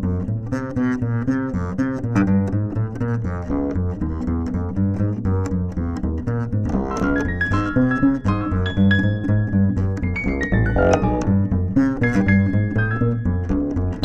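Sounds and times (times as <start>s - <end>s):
double bass played pizzicato: 0.0s - 14.0s.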